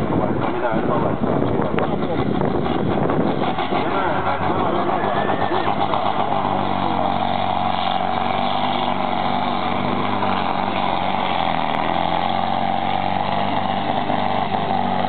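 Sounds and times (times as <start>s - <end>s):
tractor engine under heavy load: 0.0s - 15.0s.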